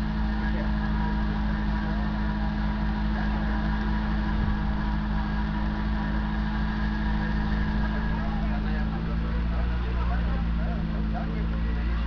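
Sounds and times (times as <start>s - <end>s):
truck engine running steadily: 0.0s - 12.0s.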